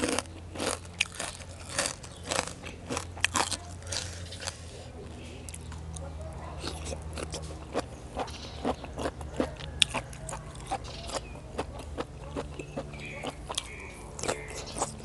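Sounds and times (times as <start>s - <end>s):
wet crunchy chewing: 0.0s - 15.0s.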